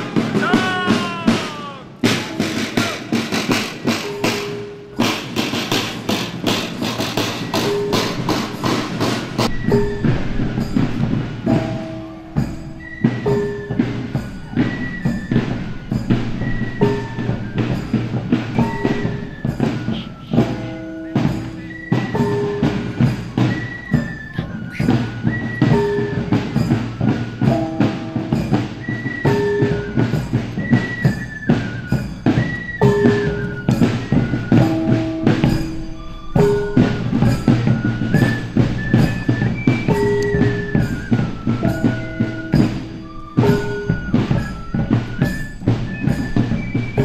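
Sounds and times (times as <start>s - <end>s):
drums beating a march: 0.0s - 47.0s.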